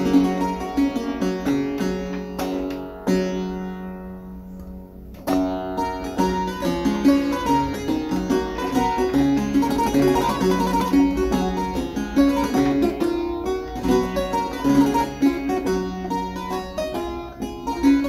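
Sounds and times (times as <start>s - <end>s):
clavichord playing: 0.0s - 4.2s, 5.1s - 18.0s.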